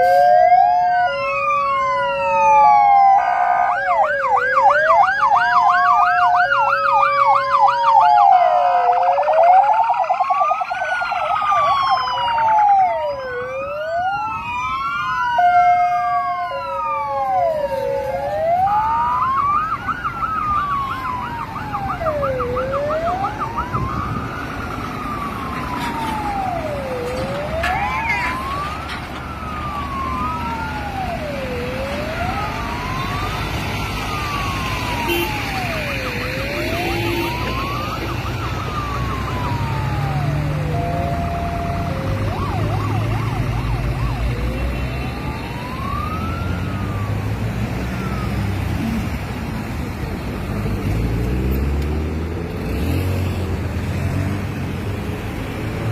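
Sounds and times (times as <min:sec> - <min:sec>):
emergency vehicle sirens: 0:00.0 - 0:55.9
low road rumble: 0:00.0 - 0:55.9.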